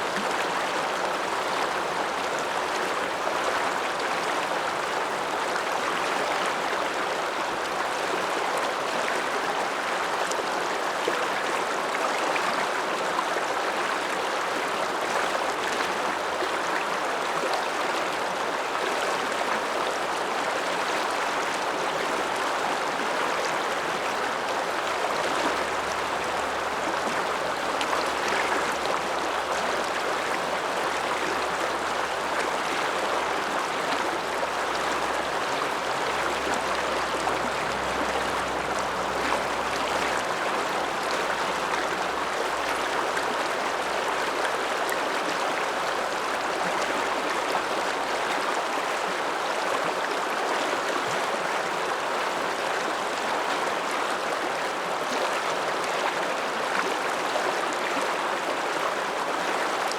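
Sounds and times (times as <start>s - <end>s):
mountain river rushing: 0.0s - 59.9s.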